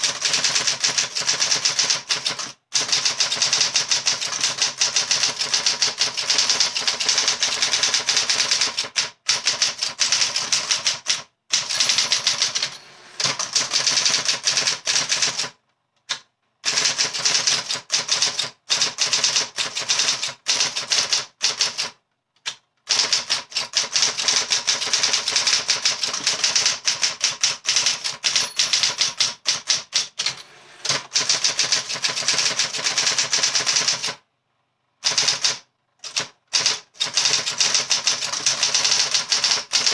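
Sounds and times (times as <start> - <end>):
electric typewriter typing fast: 0.0 - 34.2, 35.0 - 39.9.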